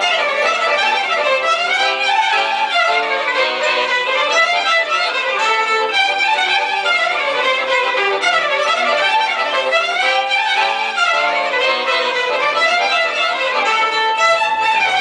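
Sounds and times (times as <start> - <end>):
fiddles playing a tune: 0.0 - 15.0.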